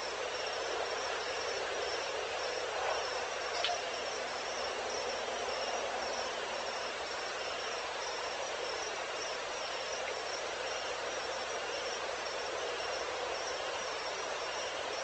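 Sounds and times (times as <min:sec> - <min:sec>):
hiss of many insects: 0:00.0 - 0:15.0.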